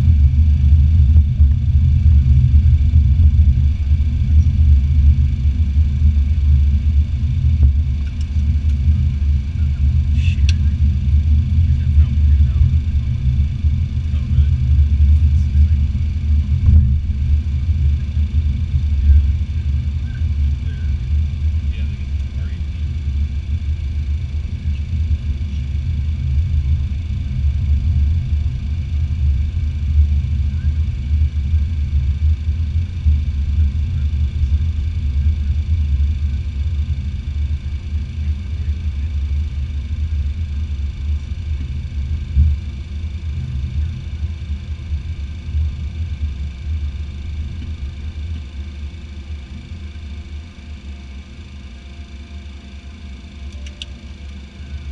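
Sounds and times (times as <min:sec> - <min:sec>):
high engine whine: 0:00.0 - 0:54.9
jet engines idling rumble: 0:00.0 - 0:54.9.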